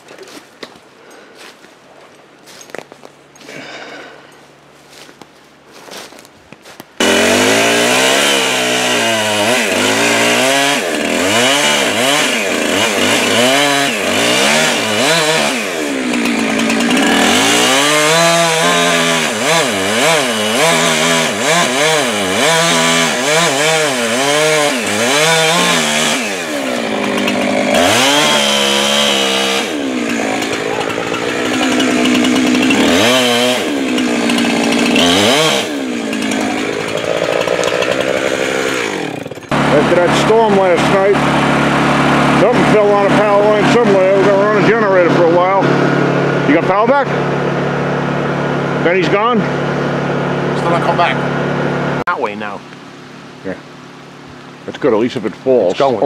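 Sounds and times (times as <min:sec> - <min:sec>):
chainsaw cutting wood: 0:02.4 - 0:52.0.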